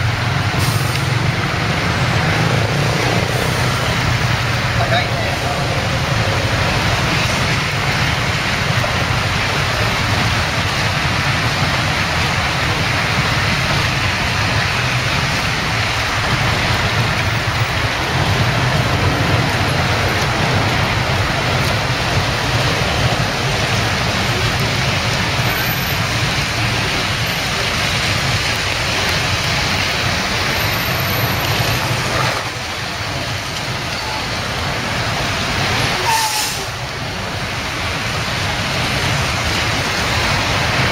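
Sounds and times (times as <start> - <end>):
strong wind rushing: 0.0 - 40.9
wind gusts rumbling on microphone: 0.0 - 40.9.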